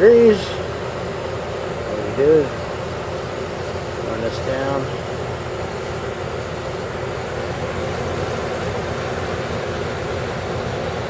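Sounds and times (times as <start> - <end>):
air conditioner humming and blowing: 0.0 - 11.0.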